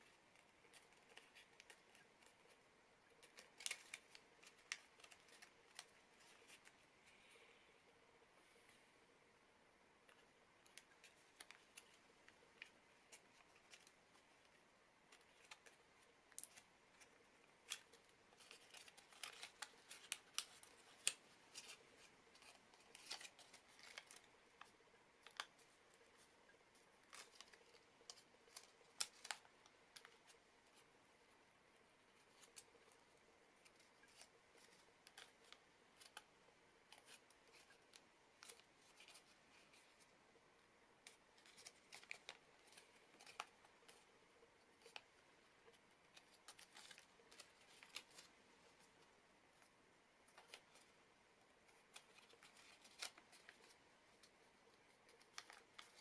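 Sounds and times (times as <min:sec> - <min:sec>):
paper being folded and creased: 0:00.0 - 0:06.9, 0:10.0 - 0:31.0, 0:31.8 - 0:40.2, 0:41.0 - 0:51.0, 0:51.6 - 0:56.0.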